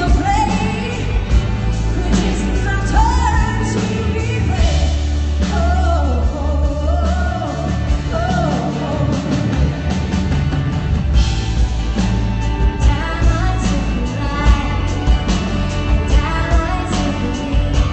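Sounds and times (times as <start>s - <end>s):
band with heavy bass: 0.0s - 17.9s.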